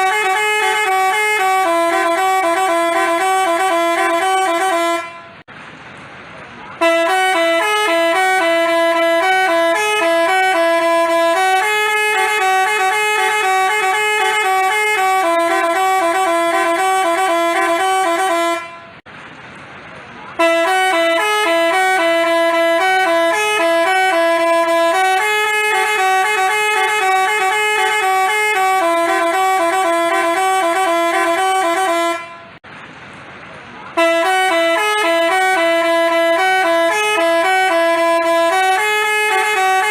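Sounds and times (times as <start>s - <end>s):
bus horn melody: 0.0s - 5.5s, 6.8s - 19.1s, 20.3s - 32.6s, 33.9s - 39.9s.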